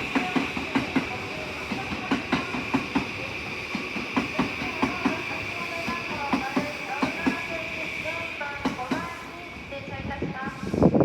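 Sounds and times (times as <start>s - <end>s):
train wheels clicking over rail joint: 0.0s - 9.3s.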